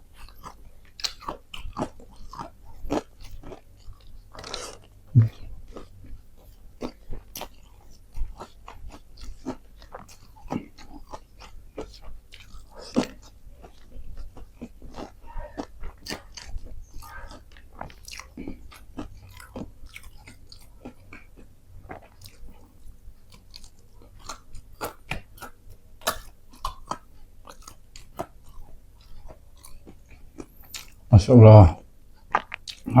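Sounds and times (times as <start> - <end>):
person chewing food: 0.0 - 31.1, 31.8 - 33.0.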